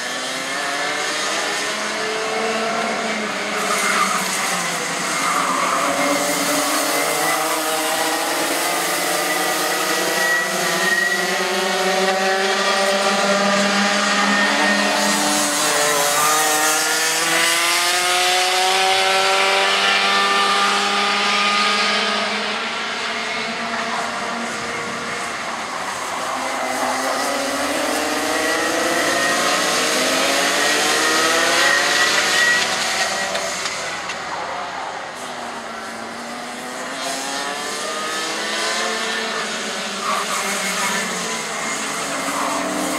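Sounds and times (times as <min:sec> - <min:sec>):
racing kart engines accelerating: 0:00.0 - 0:42.9.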